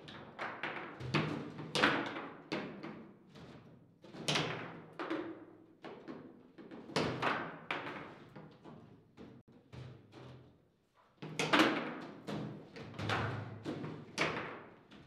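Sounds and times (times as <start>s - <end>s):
table football clacks and knocks: 0.1s - 10.5s, 11.2s - 15.0s.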